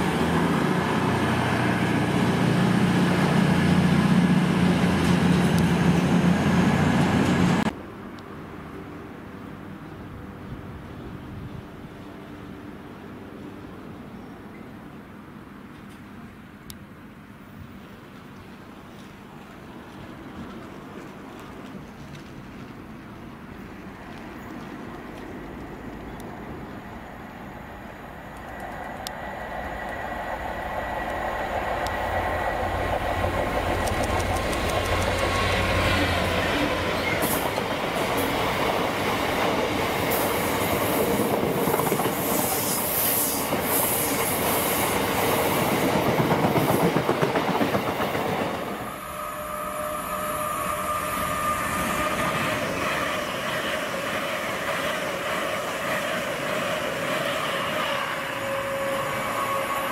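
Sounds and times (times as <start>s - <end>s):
electric train whine: 0.0s - 14.8s, 18.9s - 59.9s
diesel locomotive engine droning: 0.0s - 15.4s, 20.1s - 59.9s.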